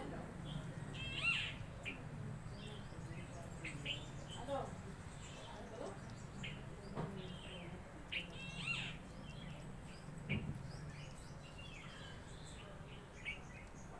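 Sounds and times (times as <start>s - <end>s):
birds chirping: 0.1s - 13.9s.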